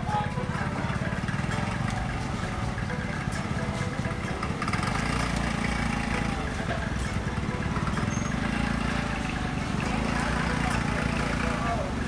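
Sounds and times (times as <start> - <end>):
faint chatter of shoppers: 0.0 - 12.0
low market rumble: 0.0 - 12.0.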